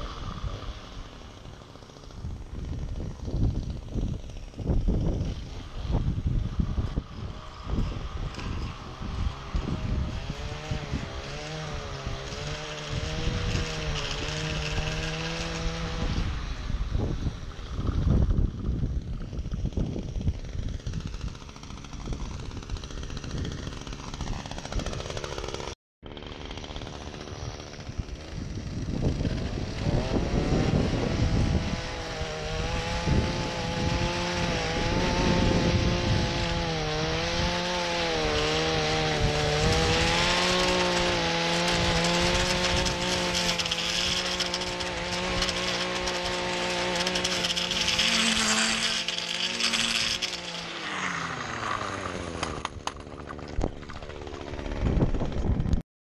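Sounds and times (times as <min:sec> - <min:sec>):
string trimmer engine revving: 0:00.0 - 0:55.8.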